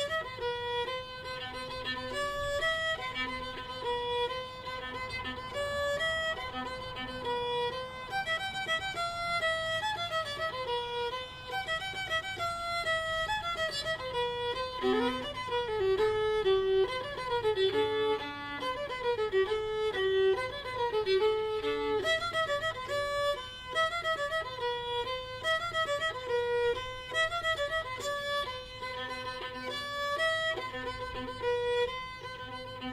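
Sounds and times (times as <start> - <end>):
lively fiddle tune: 0.0 - 32.9.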